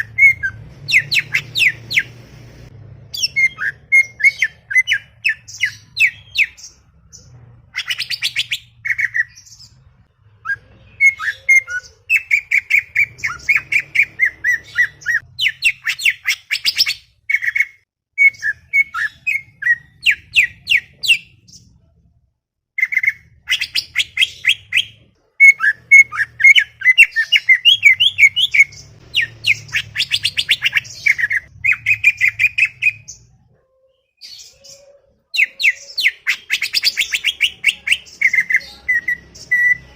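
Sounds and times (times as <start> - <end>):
bird singing chattering song: 0.0 - 2.3, 3.1 - 21.7, 22.8 - 39.9.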